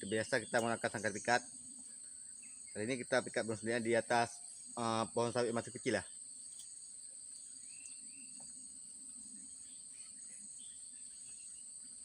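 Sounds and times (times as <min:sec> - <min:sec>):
insects high-pitched drone: 0:00.0 - 0:12.0.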